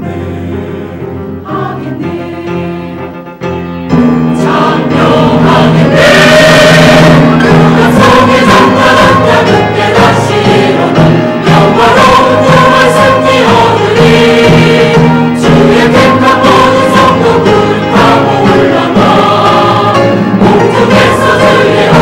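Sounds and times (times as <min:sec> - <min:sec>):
church choir singing: 0:00.0 - 0:22.0.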